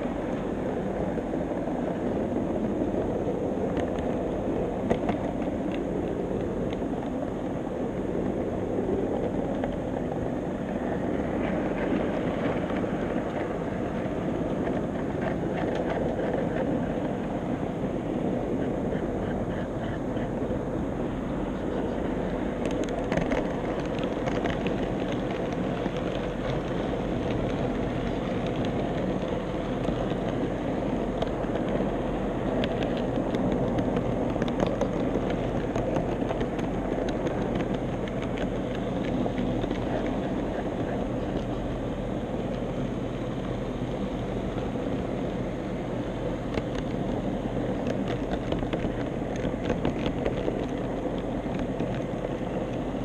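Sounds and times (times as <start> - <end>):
wheels rolling on rails: 0.0 - 53.0.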